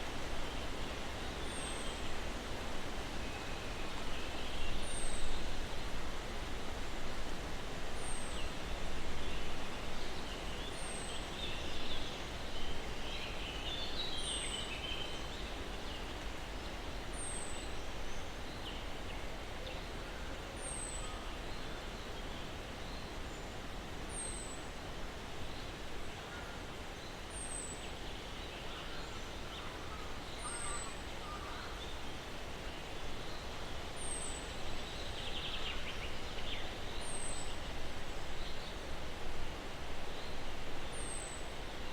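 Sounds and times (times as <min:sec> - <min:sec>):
breeze through pine trees: 0:00.0 - 0:41.9.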